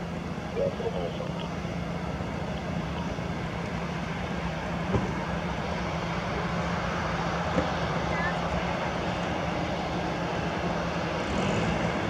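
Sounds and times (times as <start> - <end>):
jet engines at low power: 0.0 - 12.0.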